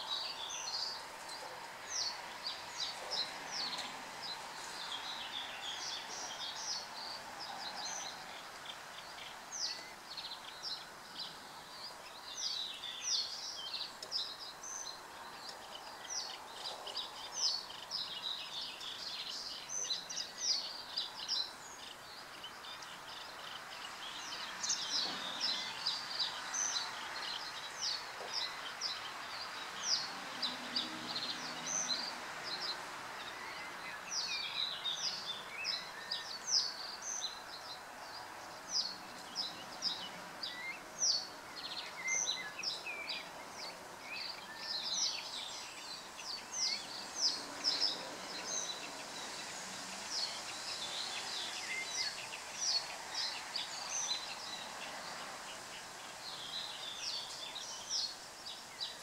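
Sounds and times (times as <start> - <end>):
birds chirping: 0.0 - 59.0
steady background hiss: 0.0 - 59.0.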